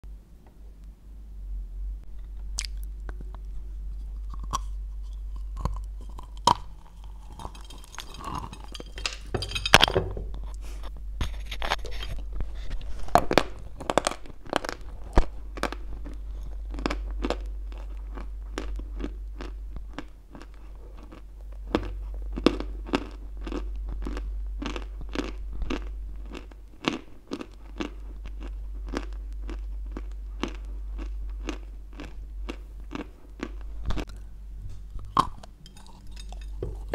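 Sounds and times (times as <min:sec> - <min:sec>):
chalk crunching while chewed: 0:02.6 - 0:09.2, 0:10.4 - 0:36.9.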